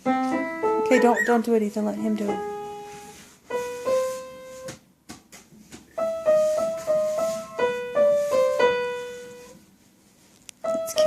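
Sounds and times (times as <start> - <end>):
slow piano melody: 0.0 - 4.8, 5.9 - 9.6, 10.6 - 11.0.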